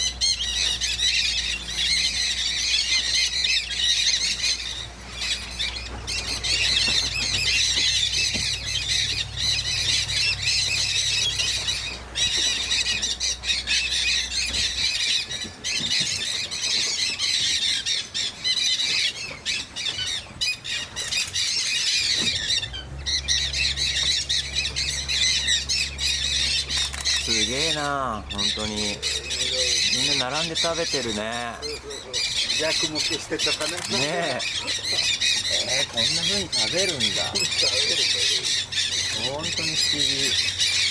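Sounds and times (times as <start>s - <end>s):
low steady hum: 0.0s - 40.9s
parrots squawking and screeching: 0.0s - 40.9s.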